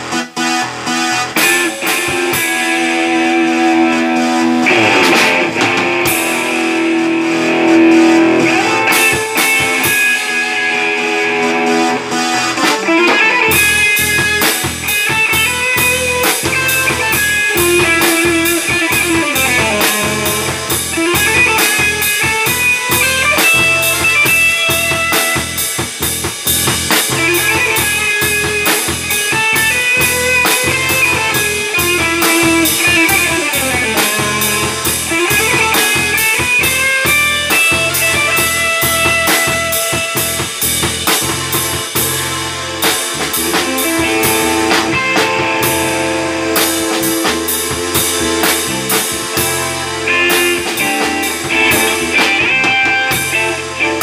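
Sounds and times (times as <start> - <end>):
instrumental rock music: 0.0 - 54.0.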